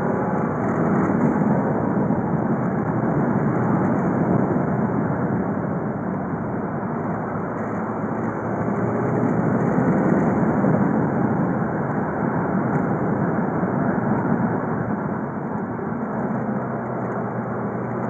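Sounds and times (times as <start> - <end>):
diesel car engine driving: 0.0 - 18.0
road noise: 0.0 - 18.0.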